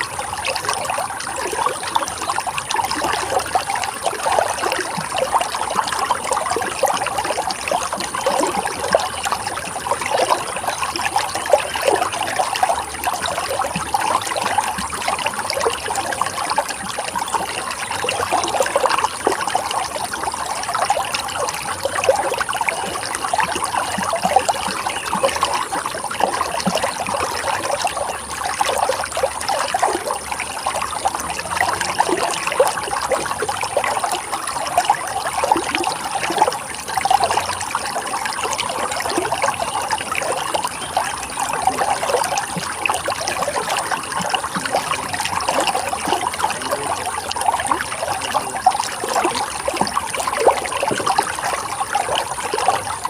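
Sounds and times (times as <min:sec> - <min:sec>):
running water trickling: 0:00.0 - 0:53.0.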